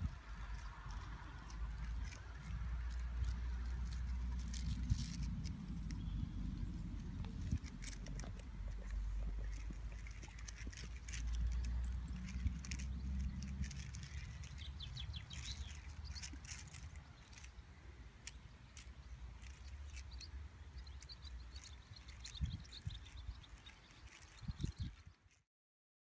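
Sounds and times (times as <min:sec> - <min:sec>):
wind rumbling on microphone: 0:00.0 - 0:17.5, 0:21.5 - 0:25.3
plastic fidget toy clicking: 0:00.0 - 0:17.6, 0:18.2 - 0:25.3
bird chirping: 0:00.0 - 0:25.4.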